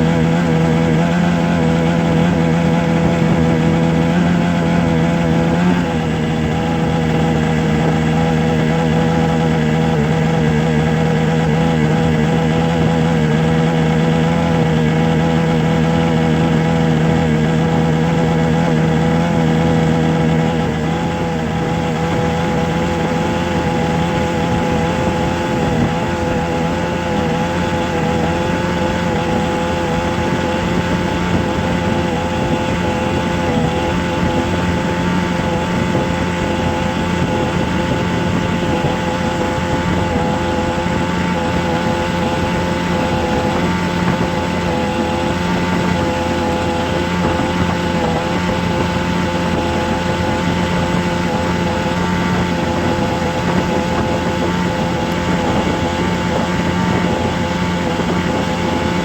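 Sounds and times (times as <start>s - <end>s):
droning machine hum: 0.0s - 59.0s.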